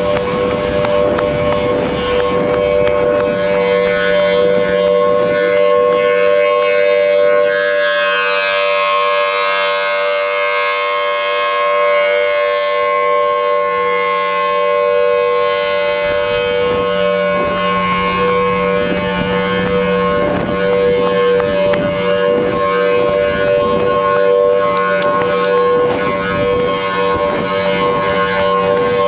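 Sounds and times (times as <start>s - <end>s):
warning siren: 0.0s - 29.0s.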